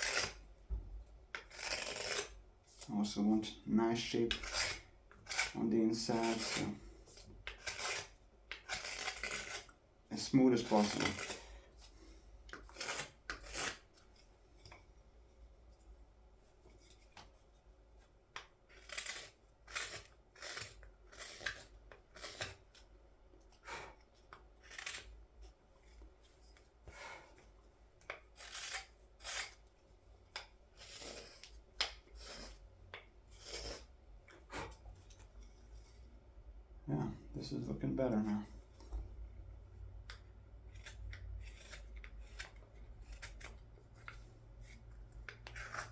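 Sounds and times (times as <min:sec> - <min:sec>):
knife scraping wood: 0:00.0 - 0:00.5, 0:01.3 - 0:14.8, 0:18.4 - 0:27.4, 0:28.0 - 0:36.1, 0:40.1 - 0:45.9.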